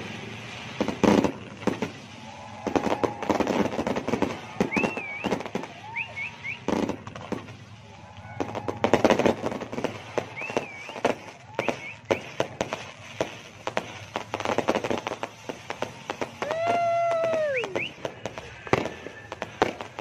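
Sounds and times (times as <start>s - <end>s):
firecrackers crackling bangs: 0.0s - 20.0s.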